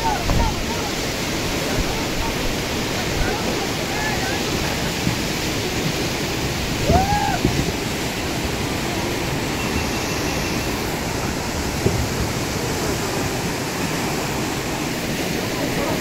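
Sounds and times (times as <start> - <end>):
river rushing through rapids: 0.0 - 16.0.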